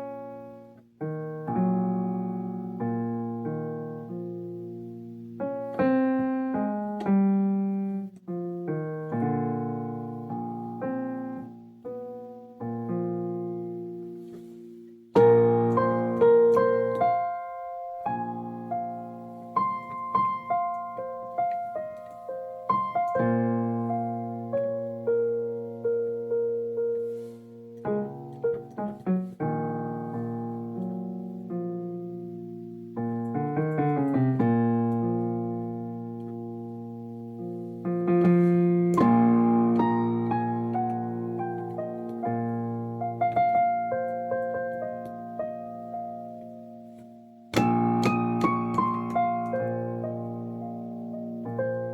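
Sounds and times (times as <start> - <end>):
keyboard chords and notes: 0.0 - 51.9
slow piano piece: 0.0 - 51.9.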